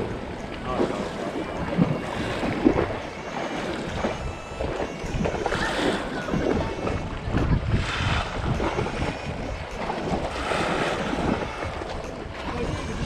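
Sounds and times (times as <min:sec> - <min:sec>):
waves slapping against rocks: 0:00.0 - 0:13.0
wind buffeting microphone: 0:00.0 - 0:13.0.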